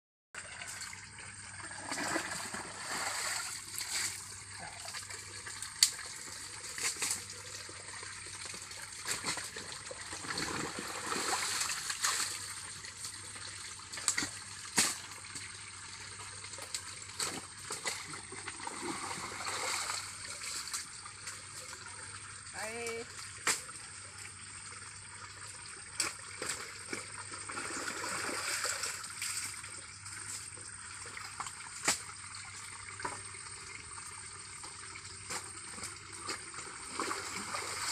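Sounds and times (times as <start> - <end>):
muddy water splashing: 0.4 - 15.5, 16.4 - 23.8, 25.9 - 33.3, 35.2 - 37.9.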